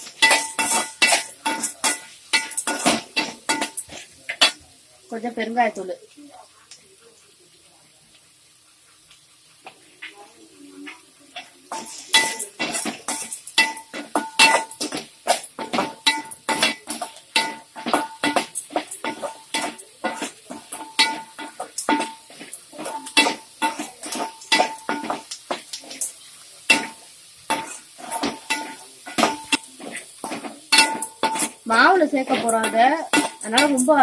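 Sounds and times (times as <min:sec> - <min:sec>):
metal spatula scraping metal pan: 0:00.0 - 0:04.6, 0:10.0 - 0:34.0
vegetables sauteing in oil: 0:00.0 - 0:34.0.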